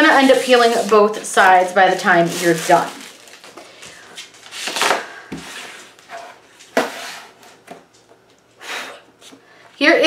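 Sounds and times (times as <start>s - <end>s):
vinyl sheet rustling and crackling: 0.0s - 8.2s.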